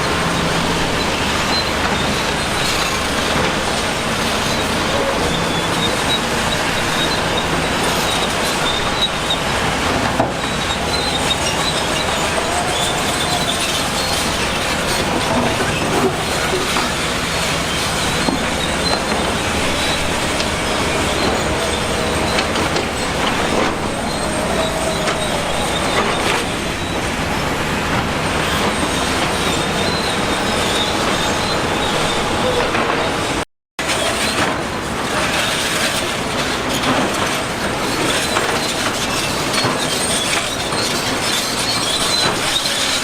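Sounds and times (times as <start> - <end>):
bulldozer running: 0.0 - 43.0
steel tracks squealing and clanking: 0.0 - 43.0.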